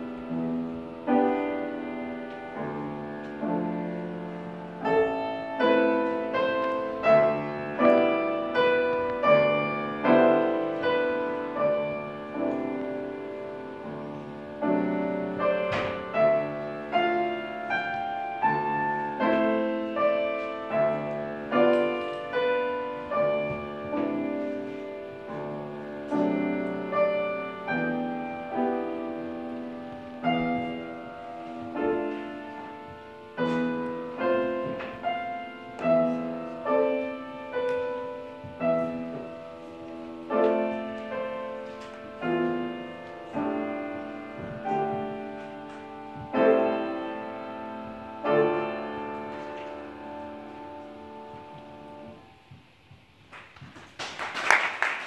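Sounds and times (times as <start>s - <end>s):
grand piano piece: 0.0s - 55.0s.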